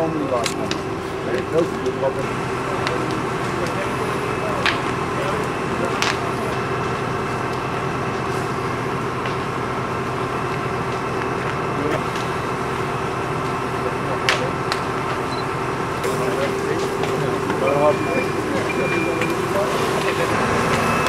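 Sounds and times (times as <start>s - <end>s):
fire cracking: 0.0s - 21.0s
fire engine pump droning: 0.0s - 21.0s.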